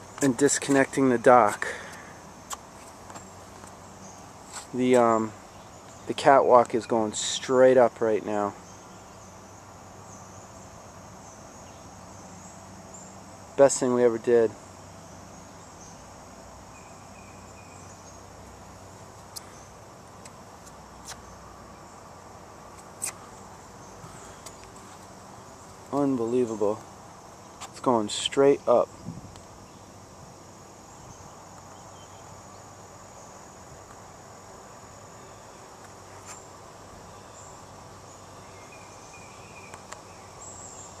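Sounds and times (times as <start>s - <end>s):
low even hiss: 0.0s - 41.0s
high-pitched insect chirring: 7.1s - 41.0s.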